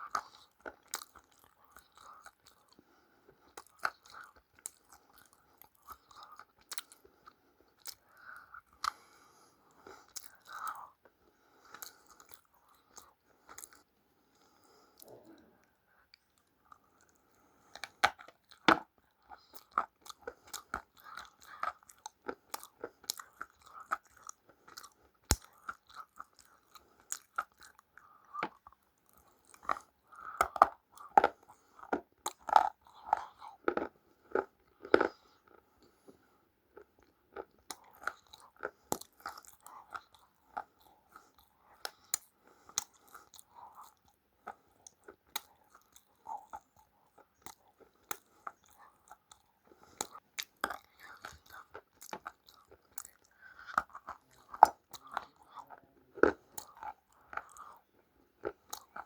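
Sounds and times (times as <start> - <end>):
crunchy food being chewed: 0.0 - 59.0.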